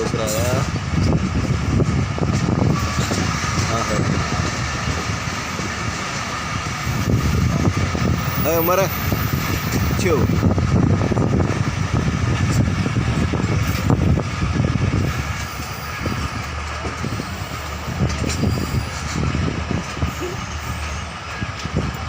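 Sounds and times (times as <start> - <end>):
train carriage rattling: 0.0 - 22.0
train rumbling on track: 0.0 - 22.0.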